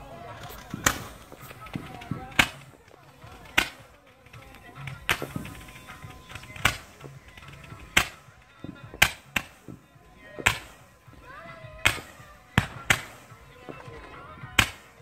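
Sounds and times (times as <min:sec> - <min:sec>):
firework cake bangs: 0:00.0 - 0:15.0.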